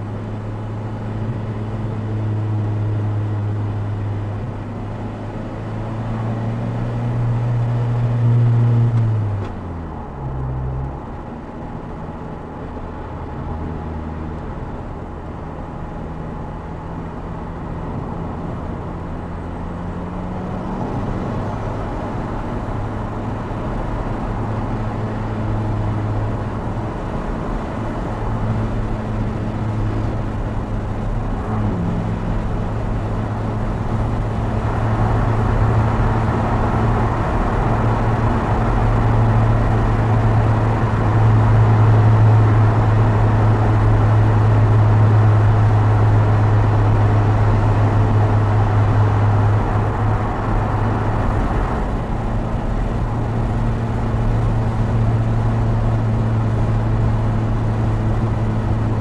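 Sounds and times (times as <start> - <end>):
car engine cruising: 0.0 - 59.0
road and wind noise: 0.0 - 59.0.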